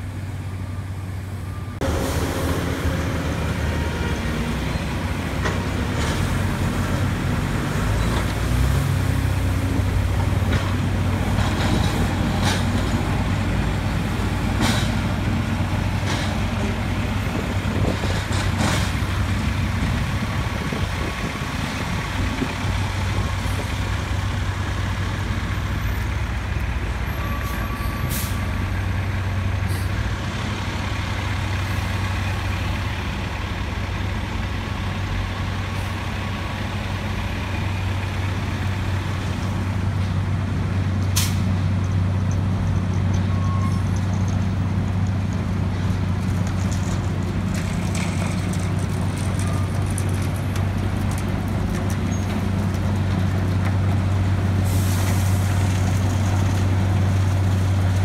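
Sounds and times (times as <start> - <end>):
dump truck diesel engine: 0.0 - 58.0.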